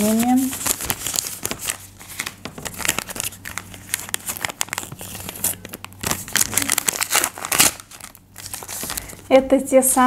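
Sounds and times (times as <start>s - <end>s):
paper crinkling: 0.0s - 9.3s.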